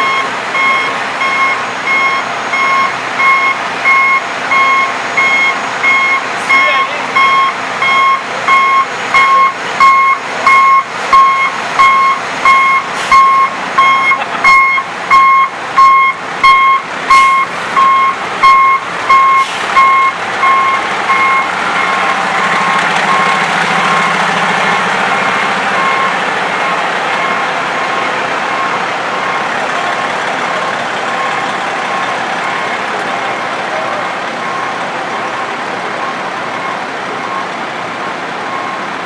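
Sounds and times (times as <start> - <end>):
truck engine running: 0.0 - 39.0
truck reversing alarm beeping: 0.0 - 39.0.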